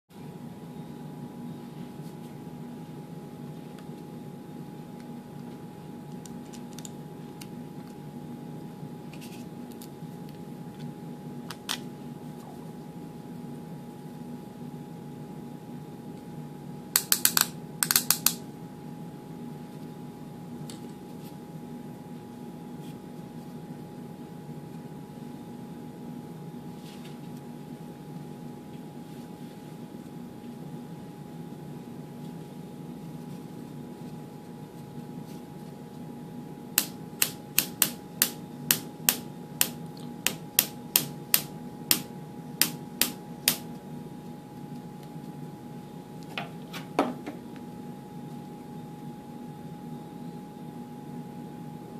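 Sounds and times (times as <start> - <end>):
steady low hum: 0.1 - 51.9.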